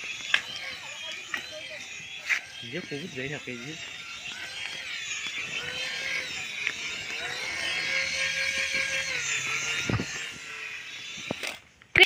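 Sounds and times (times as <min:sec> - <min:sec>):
toy helicopter motors whining: 0:00.0 - 0:12.0.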